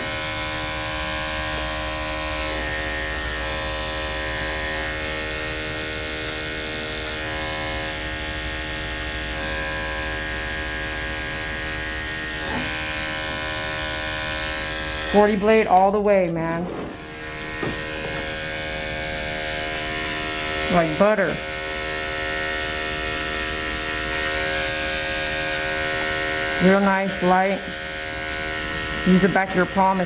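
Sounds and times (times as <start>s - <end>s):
electric hair clipper humming: 0.0s - 30.0s.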